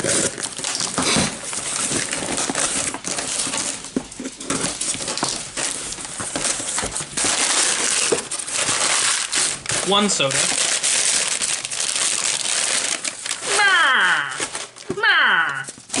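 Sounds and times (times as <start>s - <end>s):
packaging rustling and crinkling: 0.0s - 16.0s.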